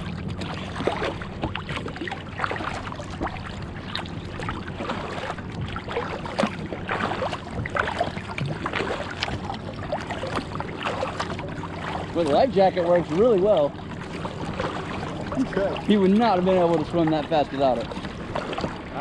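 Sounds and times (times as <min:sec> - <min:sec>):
paddle splashing and dripping: 0:00.0 - 0:19.0
water washing along hull: 0:00.0 - 0:19.0.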